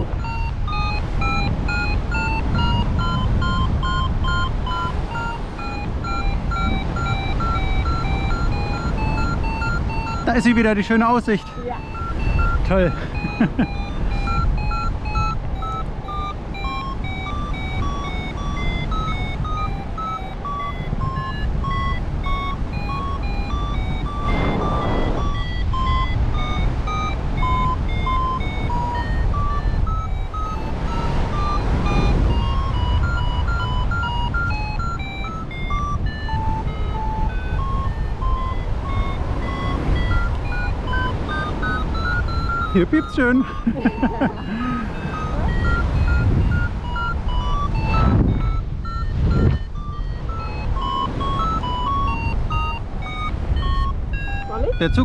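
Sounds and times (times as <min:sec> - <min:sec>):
variometer beeping: 0:00.0 - 0:55.0
wind rushing over microphone: 0:00.0 - 0:55.0.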